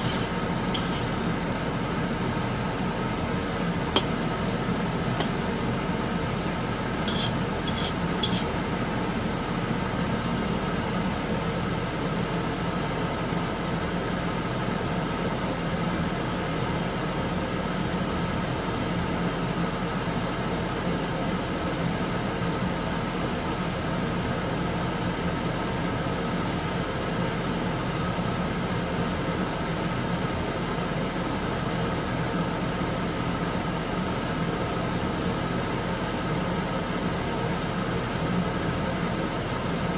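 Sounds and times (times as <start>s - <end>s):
constant mechanical hum: 0.0s - 39.9s
fat boiling in water: 0.0s - 39.9s.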